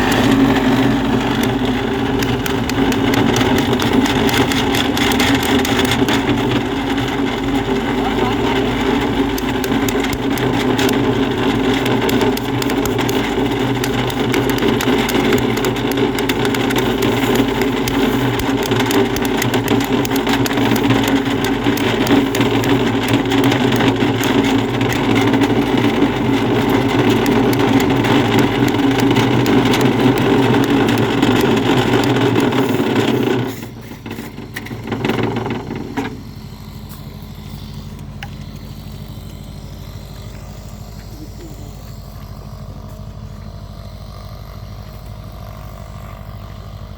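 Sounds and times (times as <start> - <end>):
motor engine running: 0.0 - 46.9.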